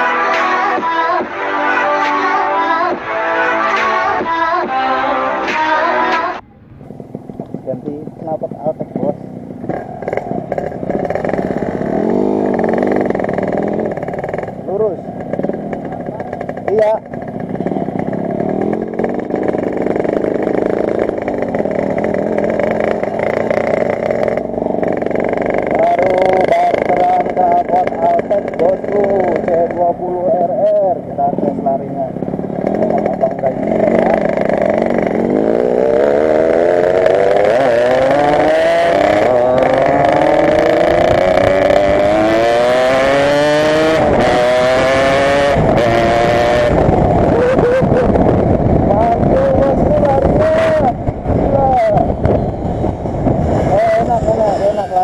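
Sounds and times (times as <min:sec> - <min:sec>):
two-stroke motorcycle engine: 0:06.3 - 0:55.0.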